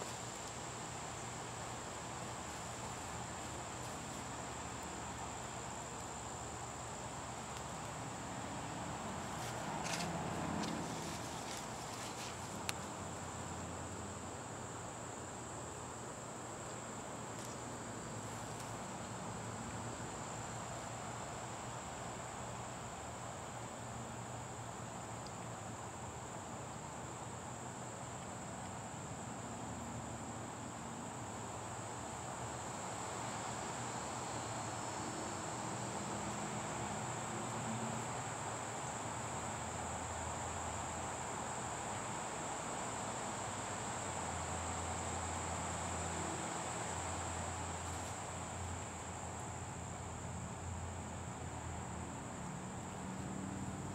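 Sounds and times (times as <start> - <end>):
crickets trilling: 0.0 - 53.9
faint background hiss: 0.0 - 53.9.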